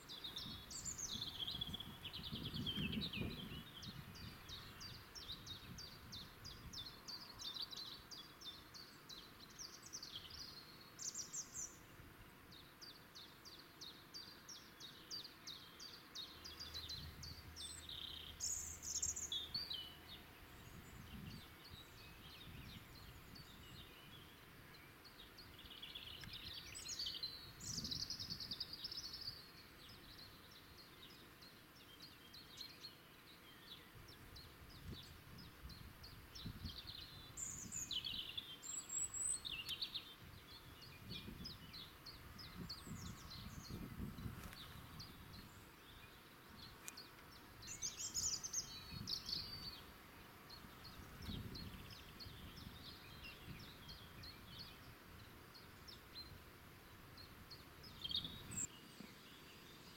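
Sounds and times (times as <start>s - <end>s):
birds singing and chirping: 0.0s - 11.9s, 12.5s - 59.9s.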